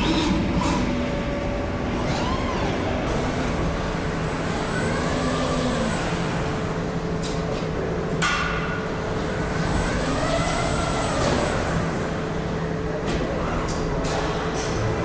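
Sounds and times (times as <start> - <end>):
machine hum with rising whine: 0.0 - 15.0.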